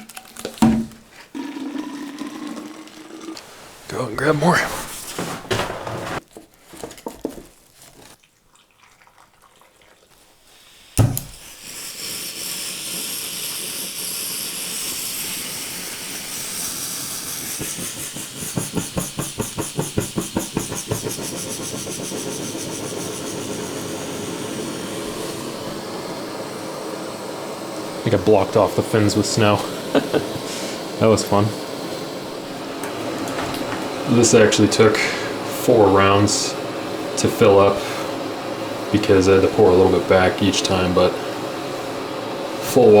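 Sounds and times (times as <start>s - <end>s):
stove burner hissing: 0.0s - 6.2s, 10.4s - 43.0s.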